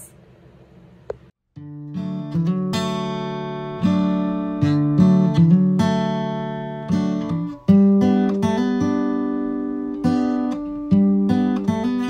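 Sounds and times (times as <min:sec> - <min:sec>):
strummed acoustic guitar: 0:01.6 - 0:12.0.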